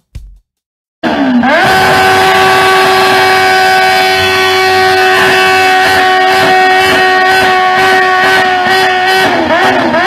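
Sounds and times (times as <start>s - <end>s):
motorcycle engine revving: 1.0s - 10.0s.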